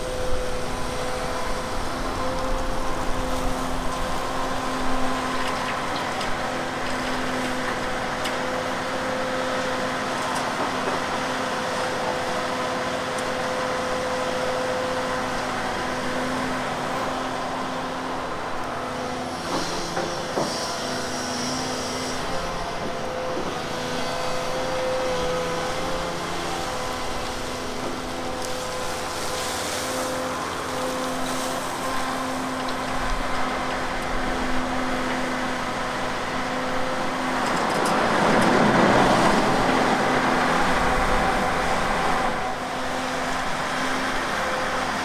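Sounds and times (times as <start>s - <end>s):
excavator engine and hydraulics: 0.0s - 45.0s.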